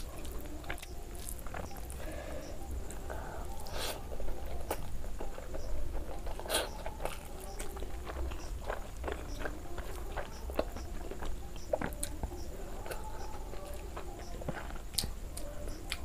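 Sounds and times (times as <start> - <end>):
chewing and wet mouth sounds: 0.0 - 16.0.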